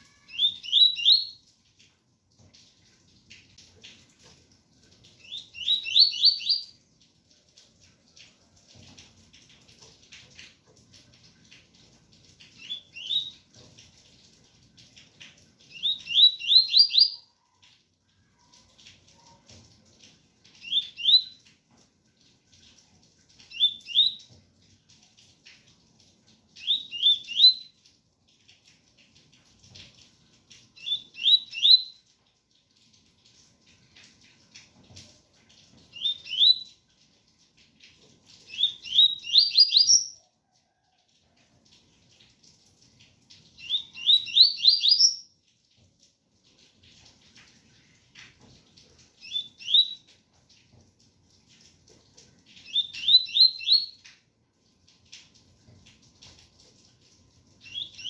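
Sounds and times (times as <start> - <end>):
faint rain pattering: 0.0 - 58.0.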